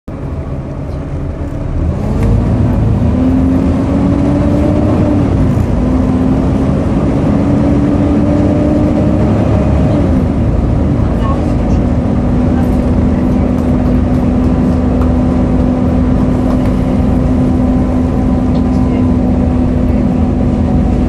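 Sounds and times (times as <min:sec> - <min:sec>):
diesel bus pulling away: 0:00.1 - 0:21.0.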